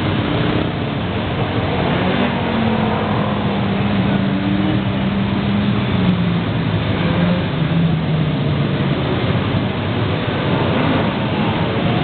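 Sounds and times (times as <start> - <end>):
many motorcycle engines passing: 0.0 - 12.0.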